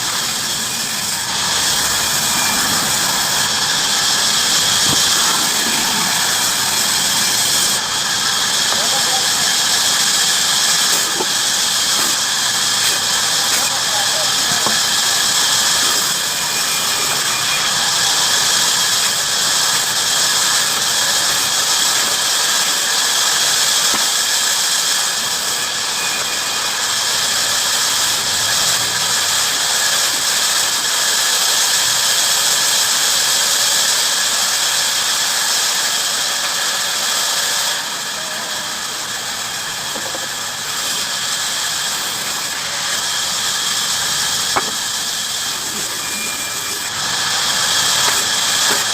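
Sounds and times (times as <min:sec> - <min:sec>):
bandsaw cutting wood: 0:00.0 - 0:48.9.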